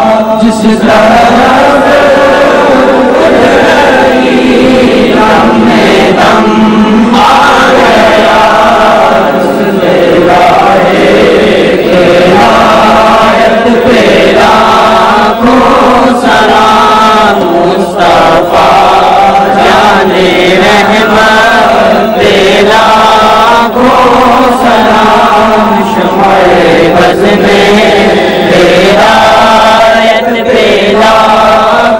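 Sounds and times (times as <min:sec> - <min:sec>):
men chanting together: 0:00.0 - 0:31.9.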